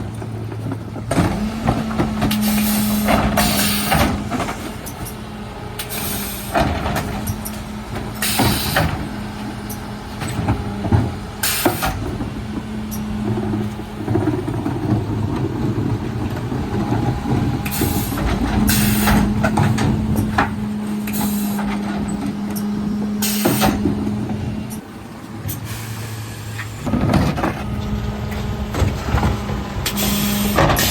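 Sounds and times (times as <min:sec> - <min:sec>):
truck engine and hydraulics humming: 0:00.0 - 0:30.9.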